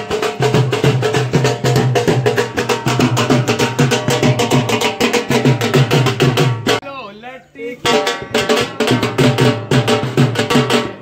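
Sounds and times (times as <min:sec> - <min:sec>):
drums beaten with sticks: 0:00.0 - 0:07.0, 0:07.8 - 0:11.0.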